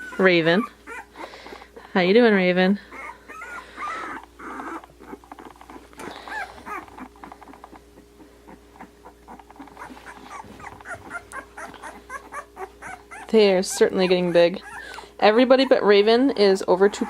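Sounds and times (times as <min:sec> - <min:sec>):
puppies squeaking and whimpering: 0:00.0 - 0:01.9, 0:02.7 - 0:17.0.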